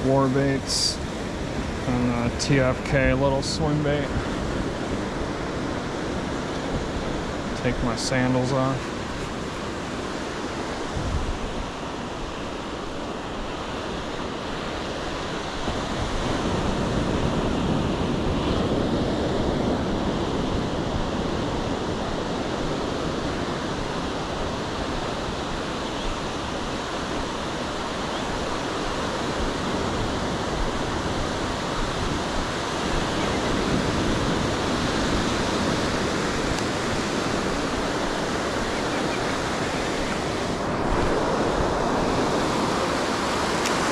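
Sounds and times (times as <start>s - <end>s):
ocean surf breaking: 0.0s - 43.9s
wind on microphone: 0.0s - 43.9s.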